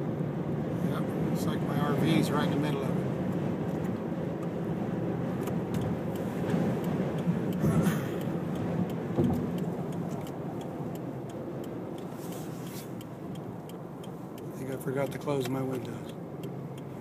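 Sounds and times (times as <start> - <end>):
tyre and engine rumble in car: 0.0 - 17.0.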